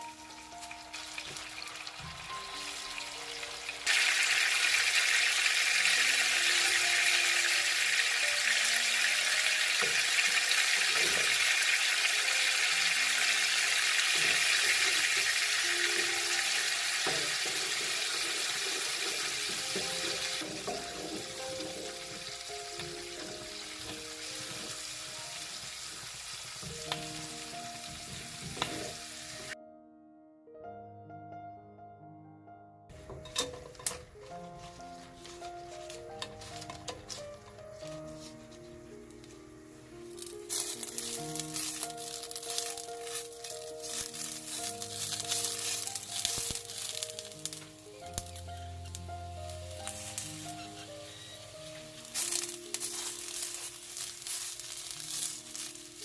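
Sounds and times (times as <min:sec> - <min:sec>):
food sizzling in a hot pan: 0:00.0 - 0:29.6, 0:40.0 - 0:56.0.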